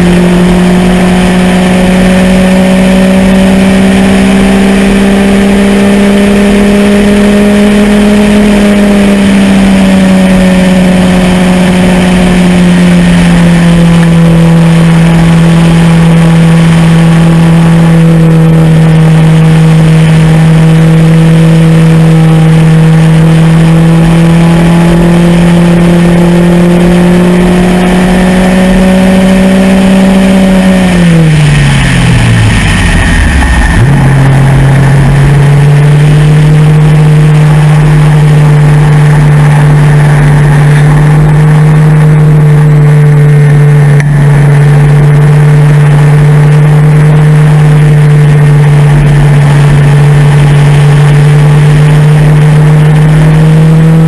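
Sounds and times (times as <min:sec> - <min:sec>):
engine running at high revs: 0:00.0 - 0:54.0.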